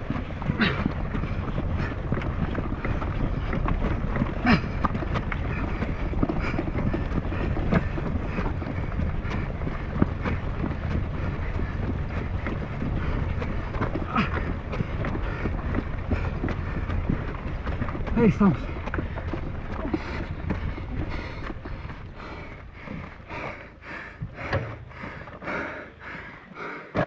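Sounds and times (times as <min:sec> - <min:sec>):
tyres crunching over dirt: 0:00.0 - 0:26.0
steady low rumble: 0:00.0 - 0:26.8
footsteps on dirt road: 0:00.0 - 0:27.0.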